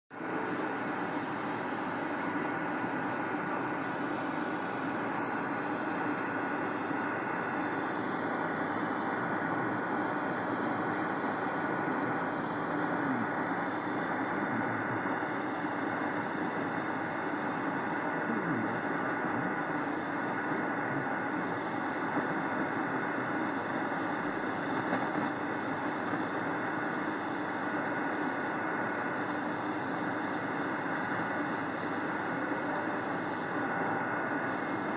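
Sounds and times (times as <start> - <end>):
radio static hiss: 0.1 - 34.9
weak distant radio broadcast: 0.2 - 34.9.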